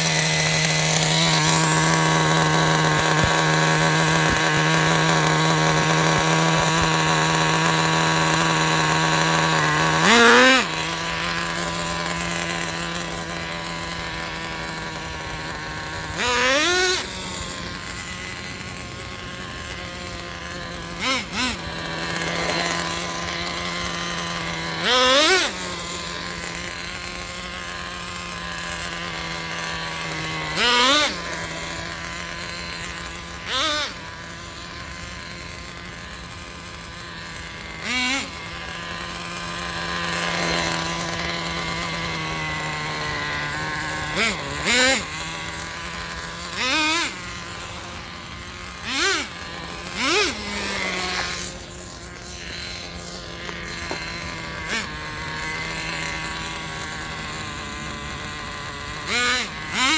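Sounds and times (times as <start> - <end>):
engine throttle revs: 0.0 - 59.9
nitro engine idling buzz: 0.0 - 59.9.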